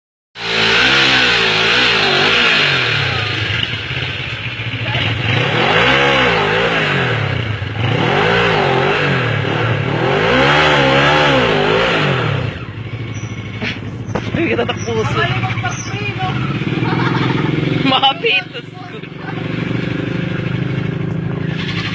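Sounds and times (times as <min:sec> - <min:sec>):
motorcycle engine revving: 0:00.4 - 0:21.9.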